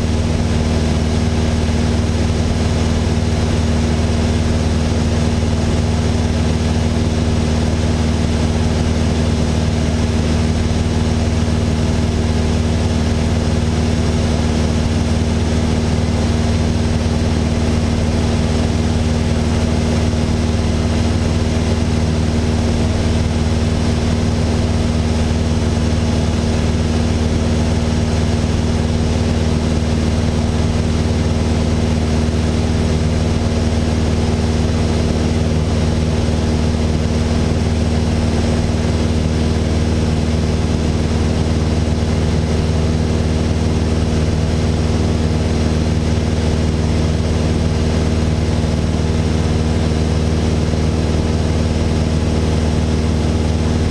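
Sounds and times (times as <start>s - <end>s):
aircraft engine droning in cockpit: 0.0s - 53.9s.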